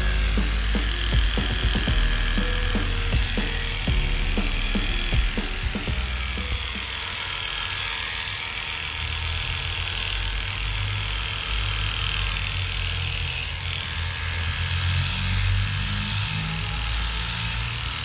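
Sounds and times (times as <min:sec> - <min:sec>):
electric clippers humming: 0:00.0 - 0:18.0.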